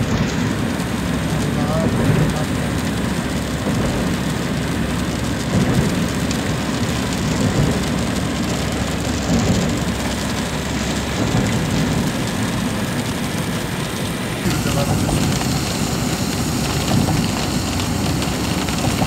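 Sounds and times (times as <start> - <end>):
engine and road noise in cabin: 0.0 - 19.0.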